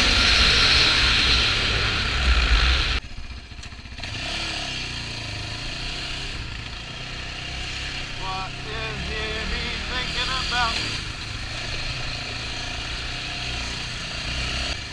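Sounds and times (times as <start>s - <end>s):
quad engine under throttle: 0.0s - 14.9s.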